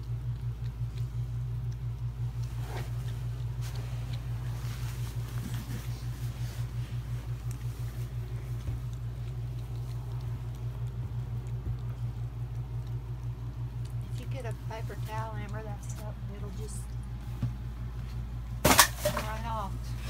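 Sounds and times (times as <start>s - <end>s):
dog licking puppy: 0.0s - 18.4s
steady low hum: 0.0s - 20.0s.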